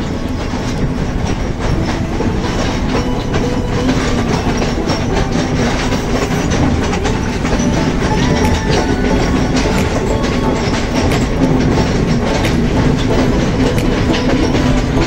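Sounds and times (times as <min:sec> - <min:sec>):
train rumbling on track: 0:00.0 - 0:15.0
wheels clattering over rails: 0:00.0 - 0:15.0.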